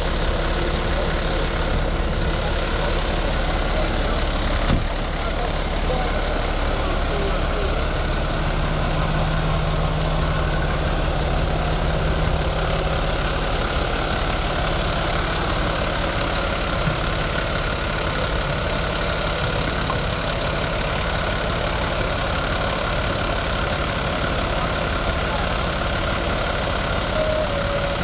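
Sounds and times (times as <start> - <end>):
fire truck engine droning: 0.0 - 28.0.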